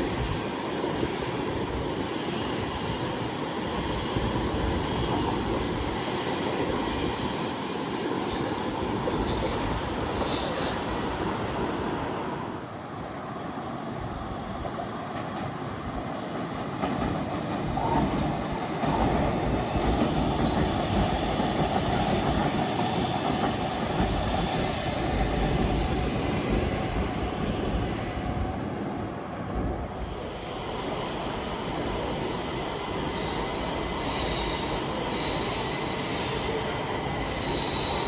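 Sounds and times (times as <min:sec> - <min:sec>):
metro train rumbling on rails: 0:00.0 - 0:38.0.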